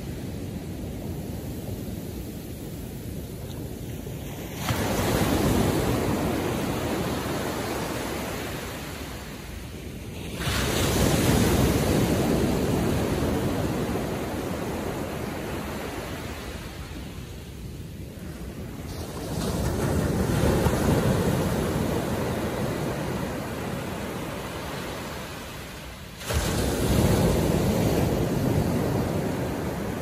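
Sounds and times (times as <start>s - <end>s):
ocean waves crashing: 0.0s - 30.0s.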